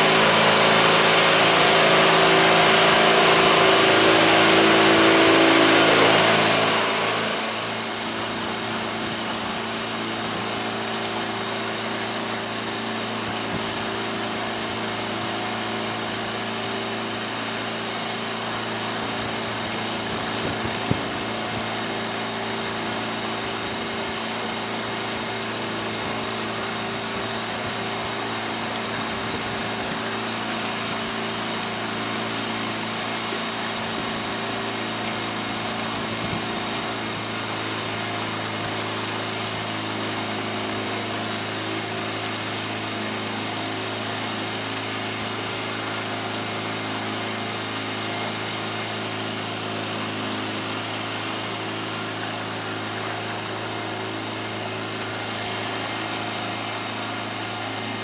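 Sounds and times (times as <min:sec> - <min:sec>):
boat diesel engine chugging: 0:00.0 - 0:58.0.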